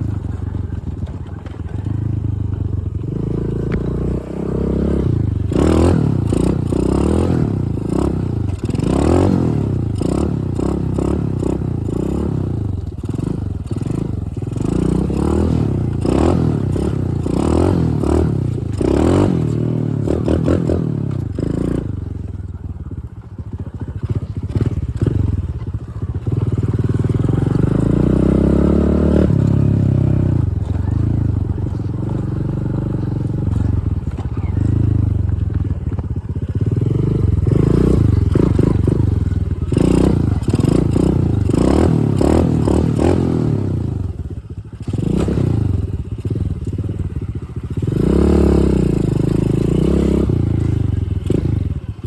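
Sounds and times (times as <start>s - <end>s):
dirt bike engine revving: 3.0s - 22.5s, 24.0s - 52.0s.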